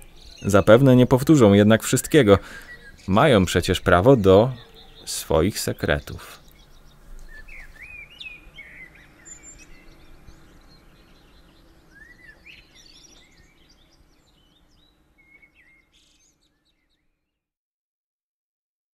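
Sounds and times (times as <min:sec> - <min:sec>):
faint background ambience: 0:00.0 - 0:16.4
birds chirping: 0:00.0 - 0:17.2.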